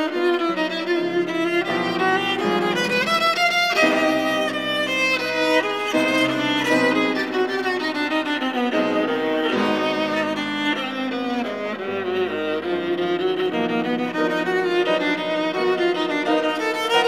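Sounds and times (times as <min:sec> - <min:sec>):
bowed viola notes: 0:00.0 - 0:17.0
piano: 0:00.0 - 0:17.0.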